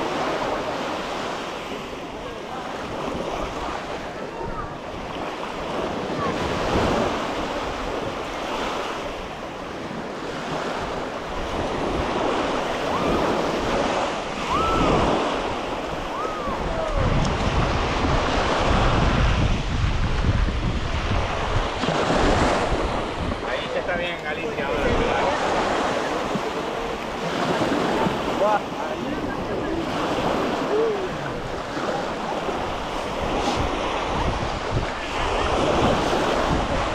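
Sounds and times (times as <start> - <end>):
surf breaking on beach: 0.0 - 36.9
wind buffeting microphone: 2.0 - 36.9.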